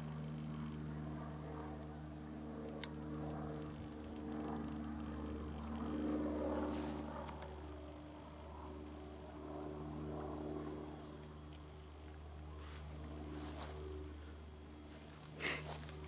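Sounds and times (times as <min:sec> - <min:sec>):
propeller plane passing overhead: 0:00.0 - 0:16.0.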